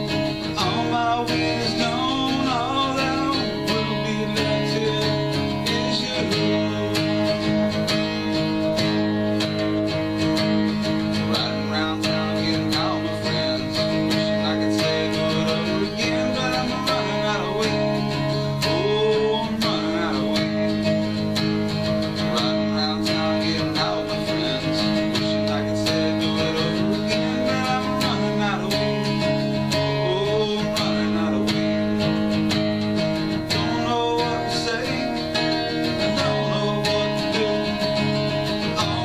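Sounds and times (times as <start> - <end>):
acoustic guitar strumming chords: 0.0 - 39.0
man singing: 0.0 - 39.0.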